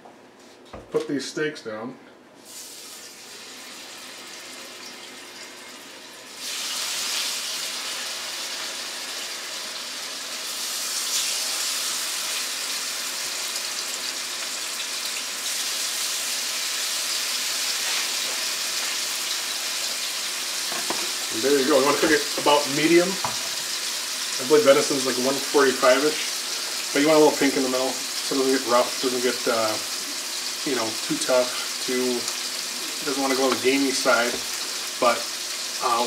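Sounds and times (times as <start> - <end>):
meat sizzling in hot oil: 2.4 - 36.0.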